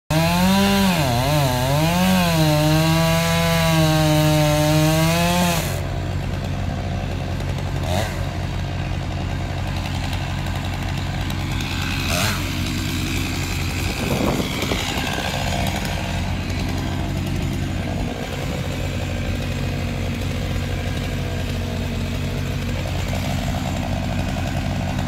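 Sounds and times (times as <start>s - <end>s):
chainsaw cutting: 0.1s - 25.0s
chainsaw idling: 0.1s - 25.0s.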